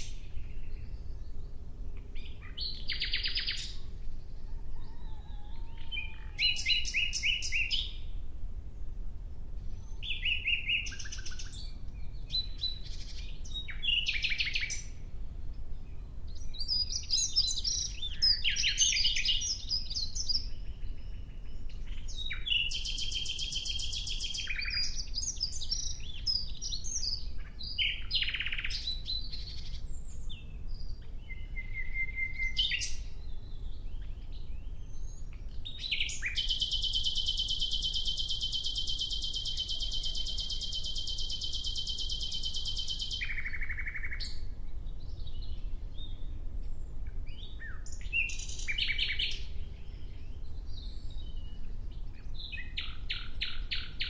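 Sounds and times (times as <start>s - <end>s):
nightingale singing: 0.0s - 8.2s, 9.6s - 54.0s.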